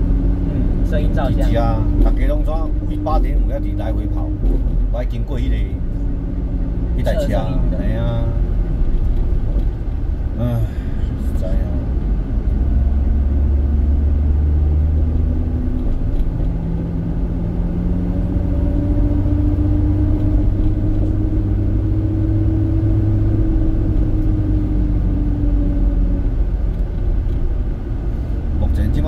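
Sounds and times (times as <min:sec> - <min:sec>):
road and wind noise: 0:00.0 - 0:29.0
vehicle engine humming: 0:00.0 - 0:29.0.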